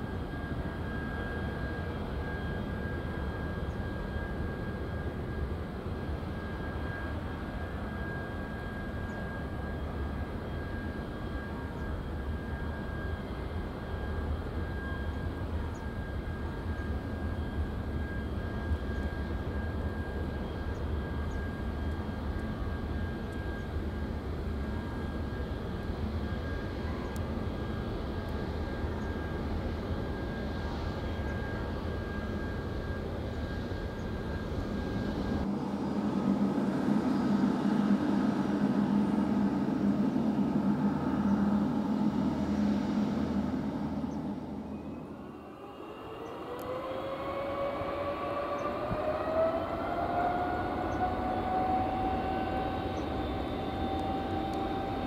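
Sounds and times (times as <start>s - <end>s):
high engine whine: 0.0s - 55.0s
jet engines rumbling: 0.0s - 55.0s.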